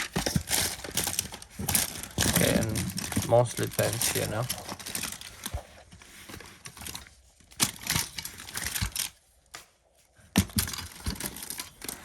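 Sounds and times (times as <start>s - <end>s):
pens clicking and knocking in a box: 0.0s - 9.6s, 10.3s - 12.0s.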